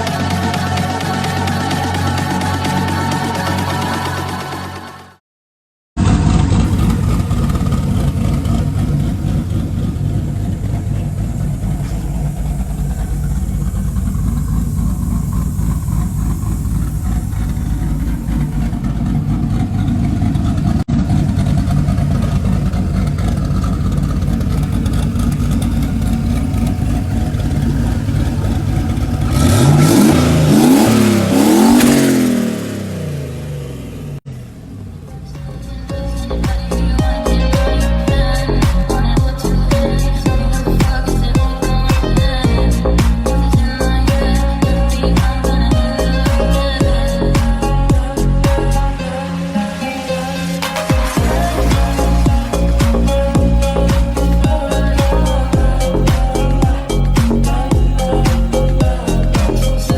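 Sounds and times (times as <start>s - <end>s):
car engine running and revving: 6.0s - 59.9s.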